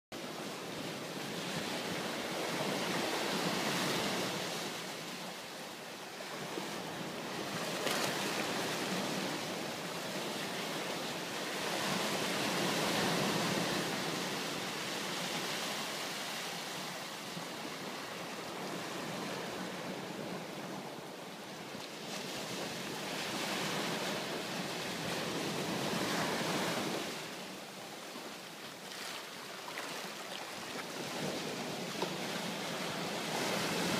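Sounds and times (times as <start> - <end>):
small waves breaking on sand: 0.2 - 33.9.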